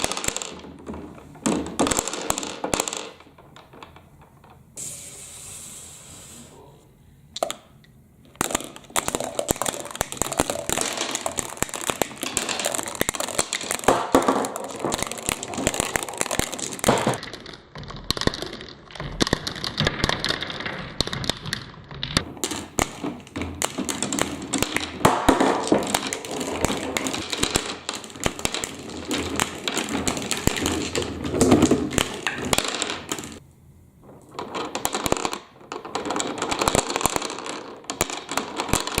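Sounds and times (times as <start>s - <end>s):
plastic balls clattering down track: 0.0s - 4.7s, 8.3s - 33.4s, 34.1s - 39.0s.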